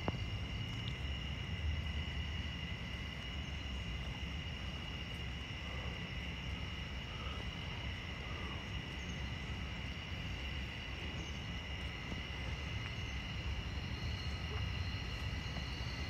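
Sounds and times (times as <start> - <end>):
constant low rumble: 0.0 - 16.0
insect chorus drone: 0.0 - 16.0.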